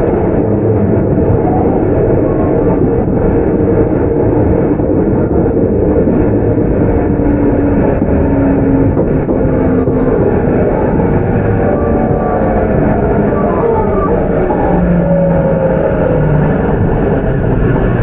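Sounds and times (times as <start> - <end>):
faint hum: 0.0 - 18.0
train wheels rumbling on track: 0.0 - 18.0.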